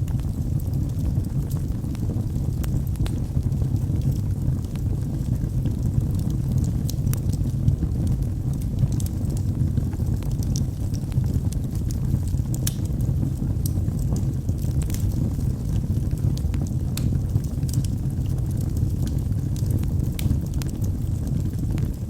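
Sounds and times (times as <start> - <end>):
fire flames rumbling: 0.0 - 22.0
logs crackling and popping: 0.0 - 22.0.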